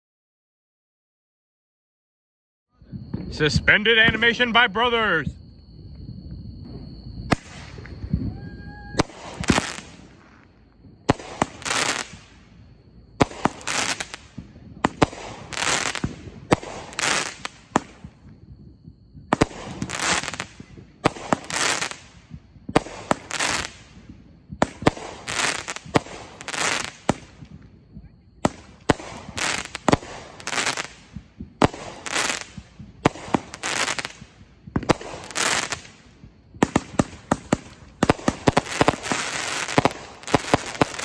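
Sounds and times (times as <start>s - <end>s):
fireworks shots with hiss: 6.5s - 41.0s.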